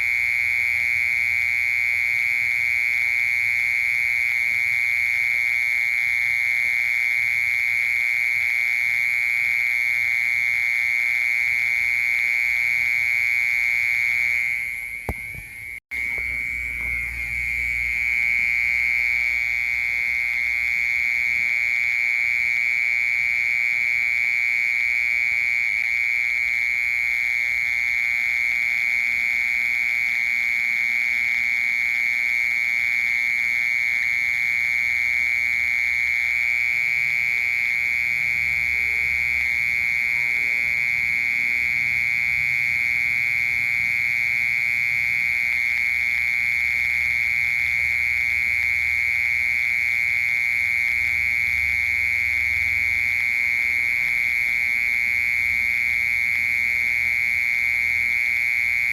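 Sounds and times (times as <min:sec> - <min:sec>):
cricket trilling: 0:00.0 - 0:58.9.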